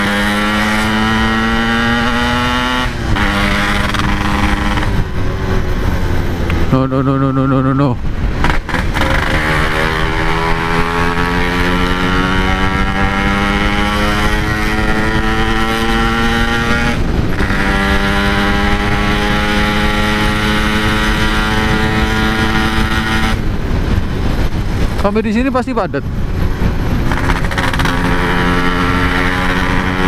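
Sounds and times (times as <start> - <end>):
low wind rumble: 0.0 - 30.0
motorcycle engine accelerating: 0.0 - 30.0.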